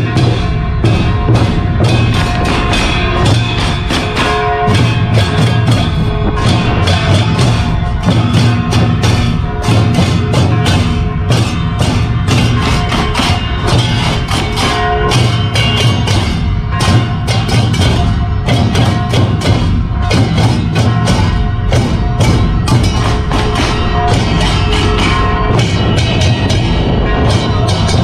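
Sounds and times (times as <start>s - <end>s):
held pitched notes ringing: 0.0s - 18.5s, 20.8s - 28.0s
drums: 0.0s - 28.0s
wood-block clacks: 0.0s - 28.0s.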